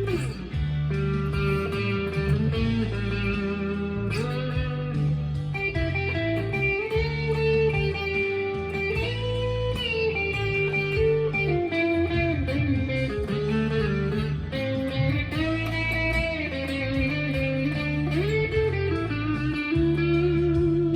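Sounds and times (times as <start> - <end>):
electric guitar lead line: 0.0 - 20.9
low guitar notes ringing: 0.0 - 20.9.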